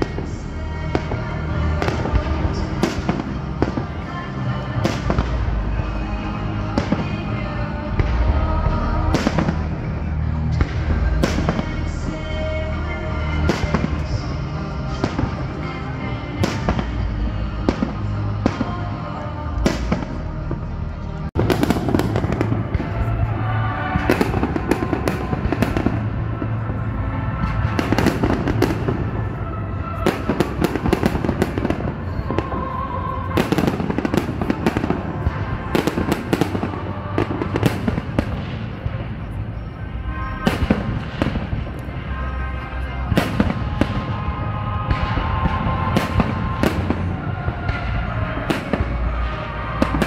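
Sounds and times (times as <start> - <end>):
fireworks bangs and crackles: 0.0 - 50.0
music: 0.0 - 50.0.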